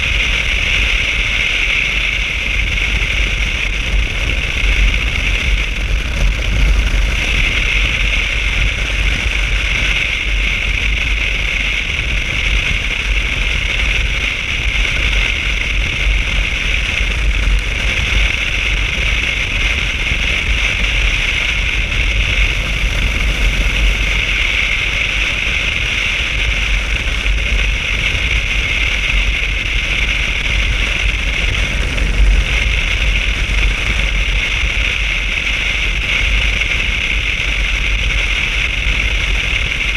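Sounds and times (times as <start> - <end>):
motorcycle riding: 0.0 - 39.9
wind rush: 0.0 - 39.9.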